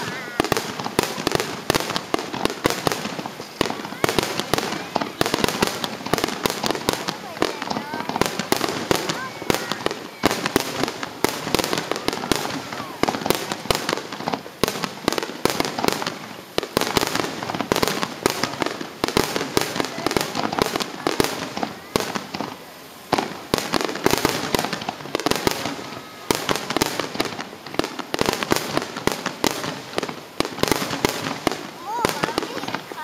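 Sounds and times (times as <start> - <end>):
fireworks bangs and crackle: 0.0 - 33.0.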